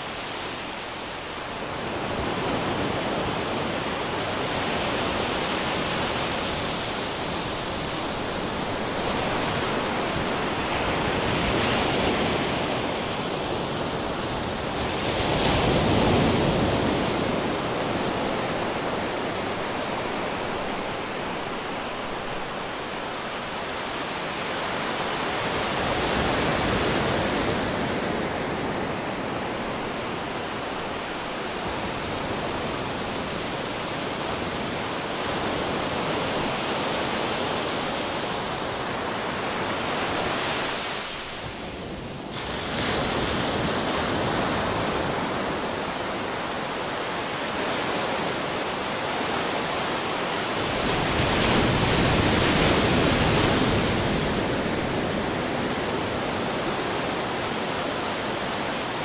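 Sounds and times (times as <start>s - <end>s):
sea waves washing in: 0.0s - 59.0s.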